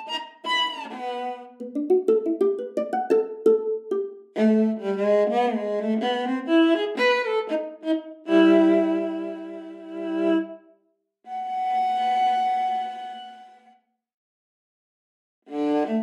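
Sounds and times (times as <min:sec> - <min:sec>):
viola playing: 0:00.0 - 0:10.6, 0:11.3 - 0:13.7, 0:15.5 - 0:16.0.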